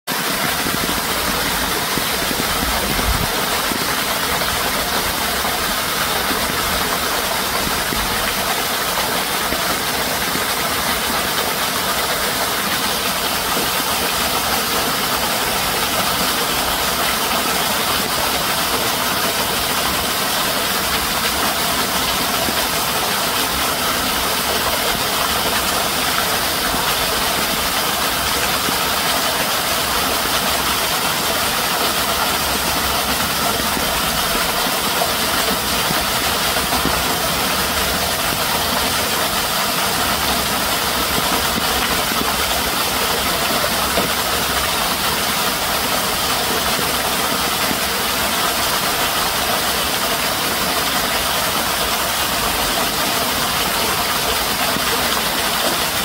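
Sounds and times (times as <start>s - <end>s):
loud steady hiss: 0.1s - 56.0s.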